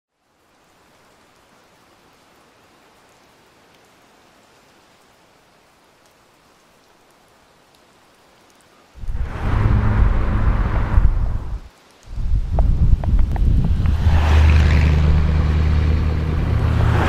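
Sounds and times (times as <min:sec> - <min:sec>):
faint outdoor hiss: 0:00.1 - 0:16.6.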